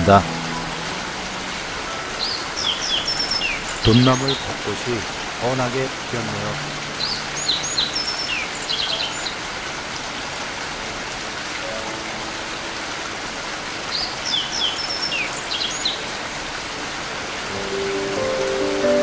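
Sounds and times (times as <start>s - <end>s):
songbird chirps and trills: 0.0s - 9.6s, 11.6s - 16.3s, 17.5s - 19.0s
rain falling on forest: 0.0s - 19.0s.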